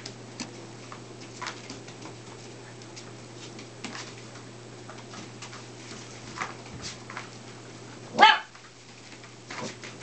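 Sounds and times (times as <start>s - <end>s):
puppies crunching kibble: 0.0s - 10.0s.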